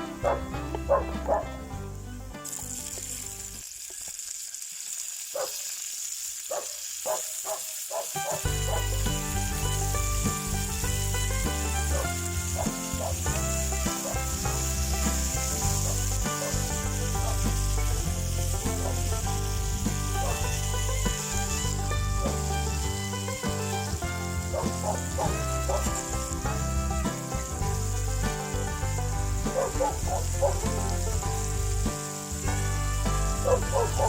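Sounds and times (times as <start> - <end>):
background music: 0.0 - 3.6, 8.2 - 34.0
food sizzling in a skillet: 0.0 - 34.0.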